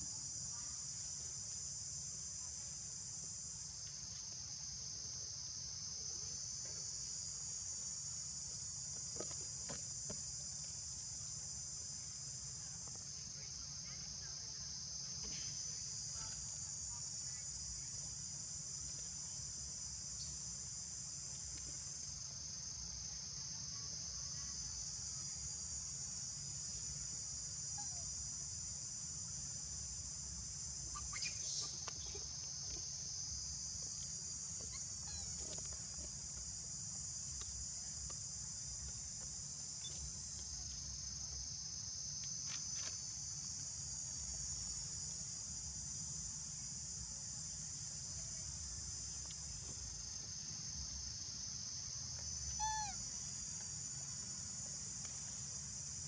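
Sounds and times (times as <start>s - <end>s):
shrill insect chorus: 0.0s - 56.0s.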